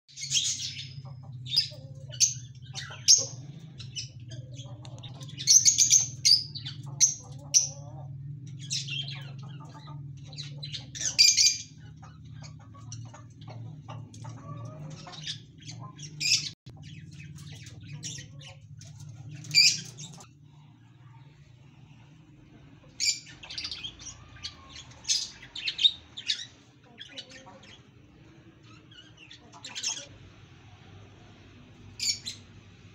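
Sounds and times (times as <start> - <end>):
small parrots chirping and squawking: 0.1 - 30.3, 31.3 - 32.9.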